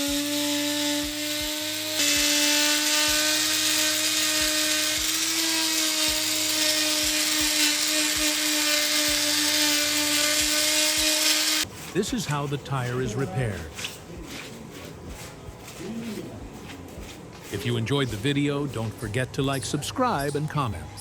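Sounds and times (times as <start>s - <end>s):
rotary wire brush scrubbing rubber: 0.0s - 20.1s.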